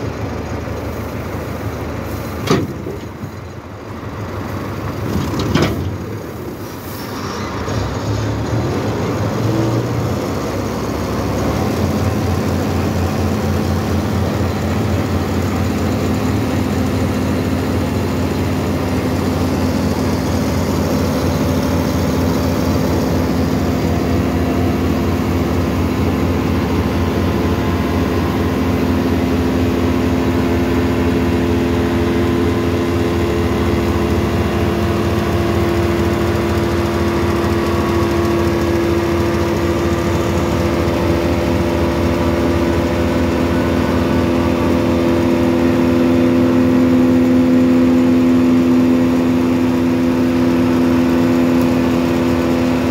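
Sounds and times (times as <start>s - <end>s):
hay baler running: 0.0s - 52.9s
hydraulic ram hum and pulsing: 0.0s - 52.9s.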